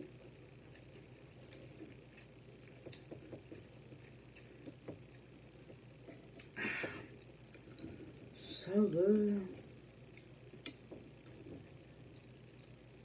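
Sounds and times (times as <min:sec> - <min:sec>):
chewing and wet mouth sounds: 0:00.0 - 0:13.0.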